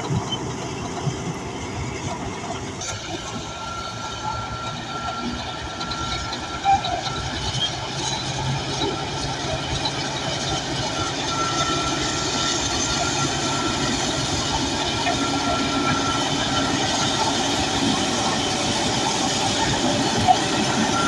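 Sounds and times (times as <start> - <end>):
diesel engine under load: 0.0 - 21.0
steel tracks clanking: 0.0 - 21.0.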